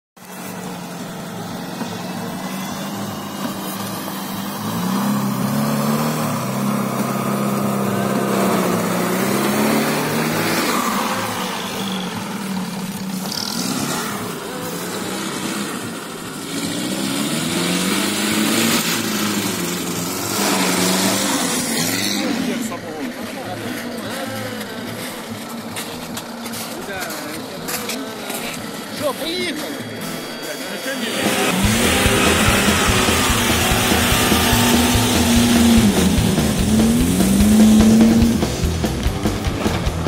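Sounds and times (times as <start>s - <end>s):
off-road vehicle engine revving: 0.2s - 40.0s
rumble of vehicle moving: 0.2s - 40.0s.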